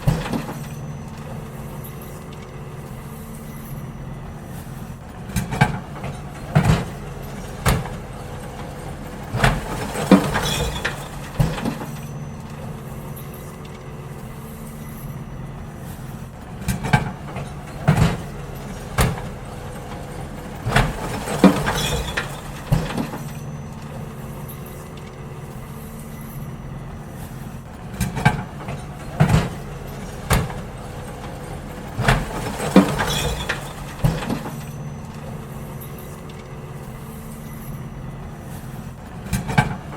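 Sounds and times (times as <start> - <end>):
bins clanking and knocking: 0.0 - 39.9
garbage truck engine hum: 0.0 - 39.9.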